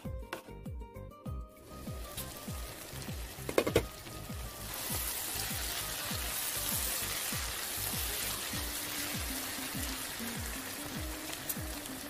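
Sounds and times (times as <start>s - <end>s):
background music with steady beat: 0.0s - 12.0s
vegetables sizzling in oil: 1.6s - 12.0s.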